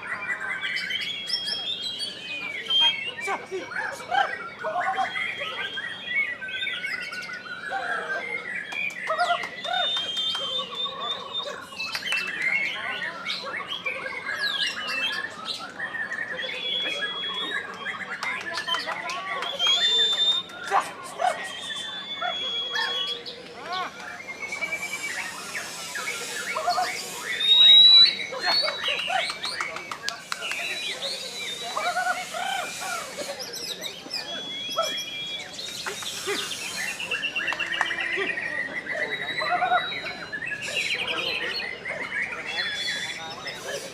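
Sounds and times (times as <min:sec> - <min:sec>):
bird singing chirps and trills: 0:00.0 - 0:43.9
songbird whistling song: 0:00.0 - 0:43.9.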